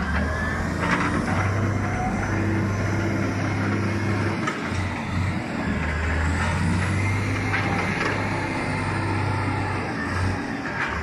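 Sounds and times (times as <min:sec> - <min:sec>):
wheel loader diesel engine: 0:00.0 - 0:11.0.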